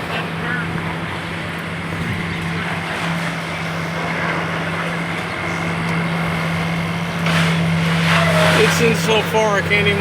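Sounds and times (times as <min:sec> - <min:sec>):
steady engine drone: 0:00.0 - 0:10.0.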